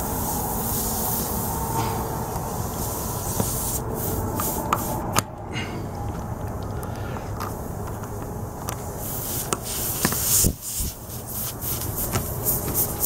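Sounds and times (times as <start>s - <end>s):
steady hiss: 0.0s - 5.3s, 6.2s - 13.0s.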